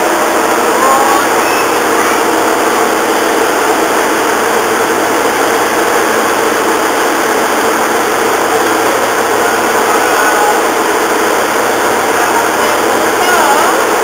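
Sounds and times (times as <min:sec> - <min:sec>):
machinery droning: 0:00.0 - 0:14.0.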